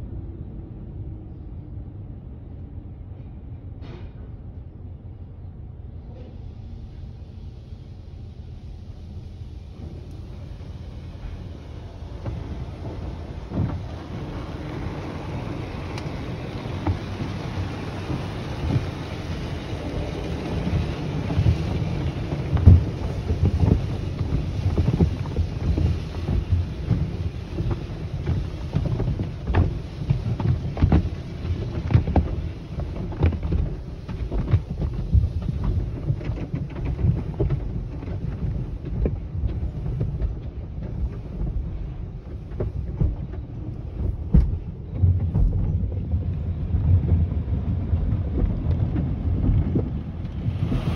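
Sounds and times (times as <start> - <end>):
water jets spraying on car: 6.4 - 50.9
car wash brushes thumping: 9.8 - 50.9.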